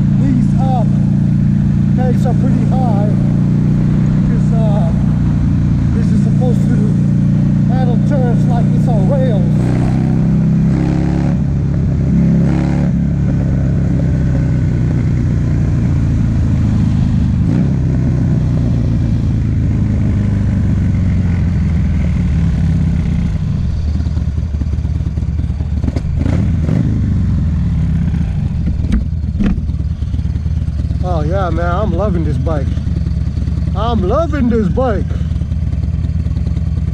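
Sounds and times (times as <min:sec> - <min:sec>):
motorcycle engine with loud exhaust: 0:00.0 - 0:36.9.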